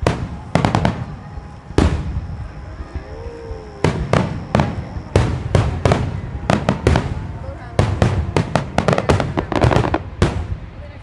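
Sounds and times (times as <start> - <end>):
fireworks bursting with echo: 0.0 - 11.0.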